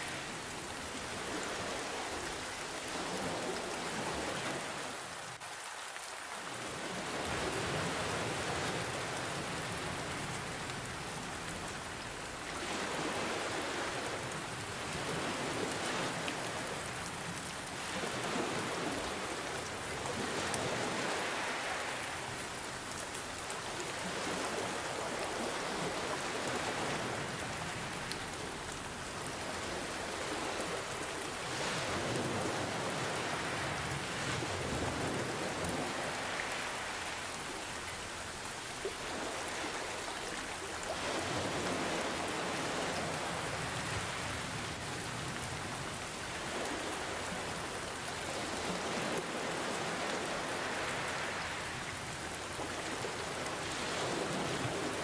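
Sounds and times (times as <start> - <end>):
ocean waves washing: 0.0 - 5.4, 6.7 - 38.0, 38.8 - 55.0
steady rain: 0.0 - 55.0.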